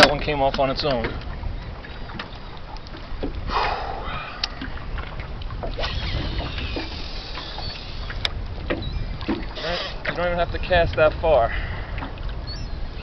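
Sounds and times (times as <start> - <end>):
waves slapping a boat hull: 0.0 - 13.0
wind on microphone: 0.0 - 13.0.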